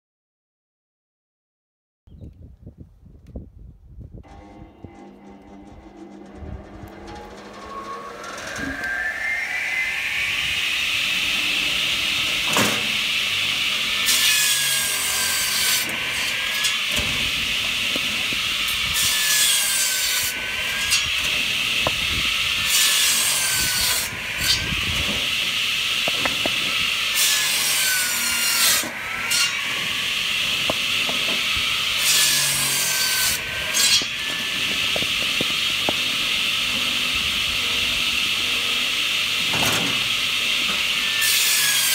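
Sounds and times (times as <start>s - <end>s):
circular saw blade whining: 4.2s - 41.9s
saw rasping through log: 4.3s - 41.9s.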